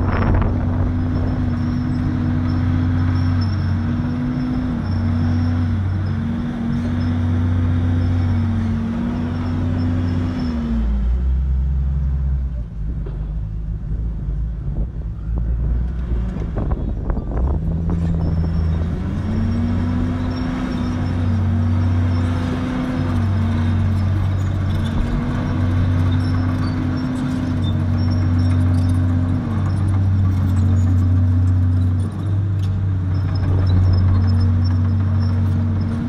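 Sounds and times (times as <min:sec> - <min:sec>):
bulldozer diesel engine under load: 0:00.0 - 0:36.0.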